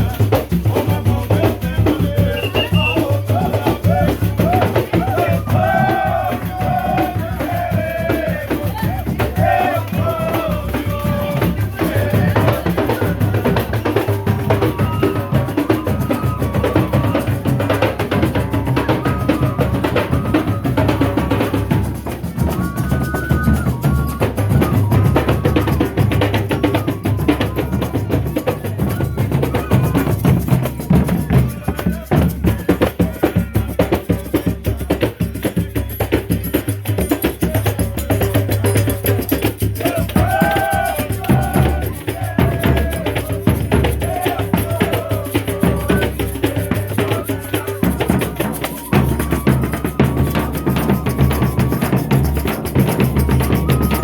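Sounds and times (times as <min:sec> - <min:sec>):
drum and percussion beat: 0:00.0 - 0:54.0
folk group playing music: 0:00.0 - 0:54.0.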